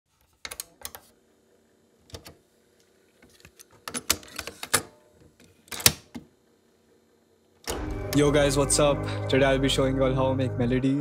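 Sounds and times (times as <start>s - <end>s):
faint steady hum: 0.1s - 11.0s.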